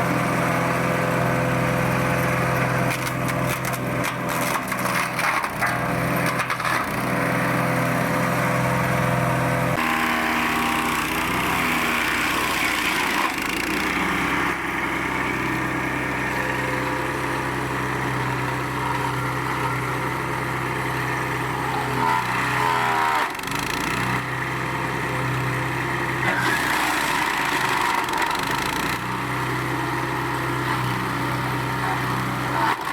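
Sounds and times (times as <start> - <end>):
wood chipper engine running: 0.0 - 32.9.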